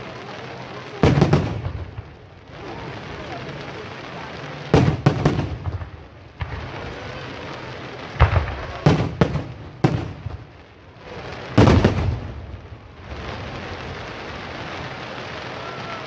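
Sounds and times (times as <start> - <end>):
fireworks bangs with echoes: 0.0 - 16.0.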